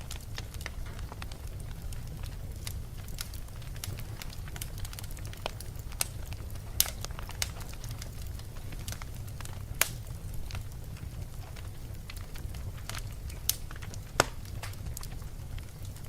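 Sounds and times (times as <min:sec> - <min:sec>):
fire crackling: 0:00.0 - 0:16.0
sharp pops from fire: 0:00.0 - 0:16.0.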